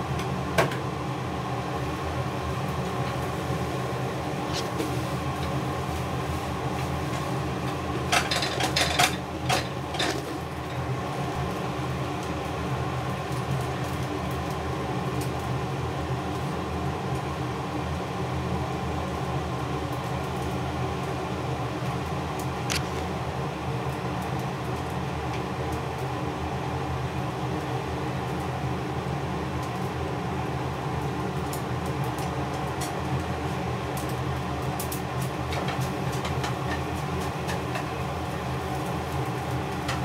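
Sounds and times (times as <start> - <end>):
appliance mechanical hum: 0.0 - 40.0.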